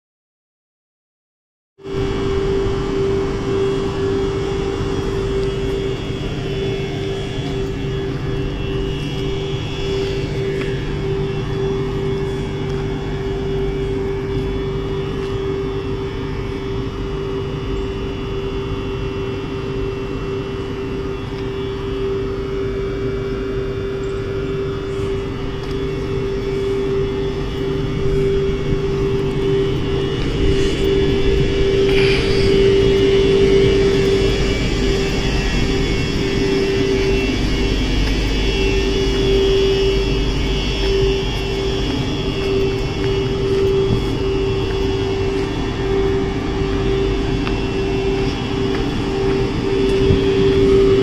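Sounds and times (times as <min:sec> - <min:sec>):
electric locomotive droning: 0:01.8 - 0:51.0.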